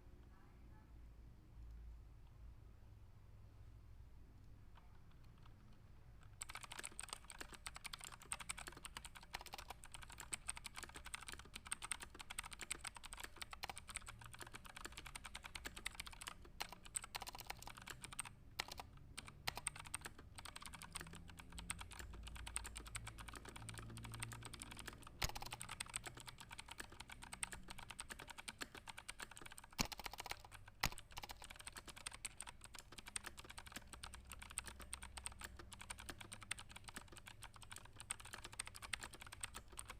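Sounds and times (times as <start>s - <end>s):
fast typing on keyboard: 4.9s - 39.9s.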